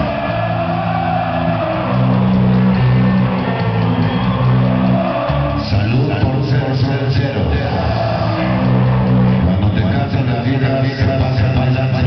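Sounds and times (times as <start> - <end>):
loud dance music: 0.0 - 12.0.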